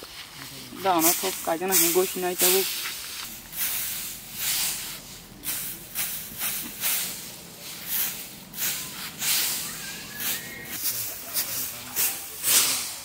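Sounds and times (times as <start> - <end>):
straw rustling as it is raked: 0.0 - 13.0.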